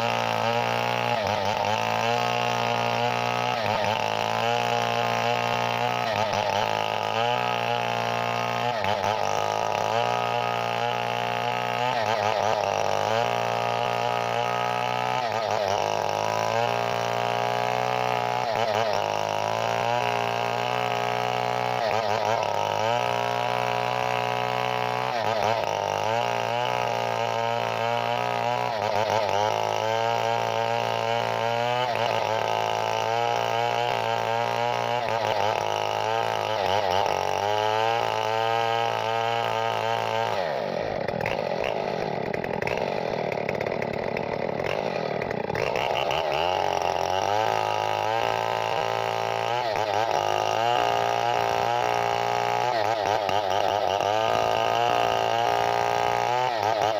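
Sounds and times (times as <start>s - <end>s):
chainsaw engine at high revs: 0.0s - 56.9s.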